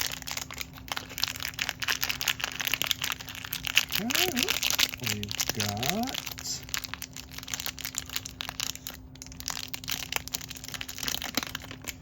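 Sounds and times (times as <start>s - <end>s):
faint steady hum: 0.0s - 12.0s
plastic bag crinkling: 0.0s - 12.0s.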